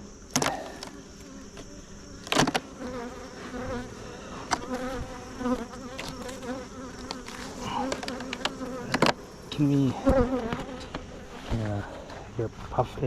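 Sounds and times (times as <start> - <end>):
bees buzzing: 0.0 - 12.6.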